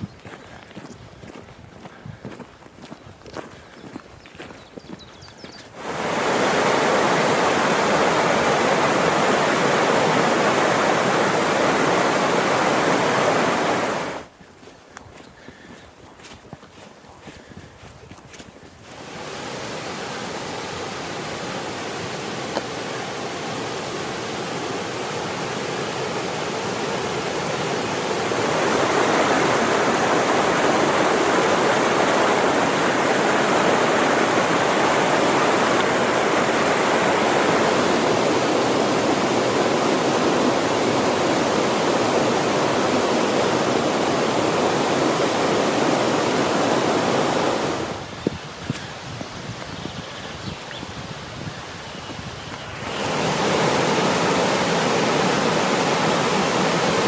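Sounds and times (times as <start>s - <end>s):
stream rushing over rocks: 5.7s - 14.3s, 18.9s - 57.0s.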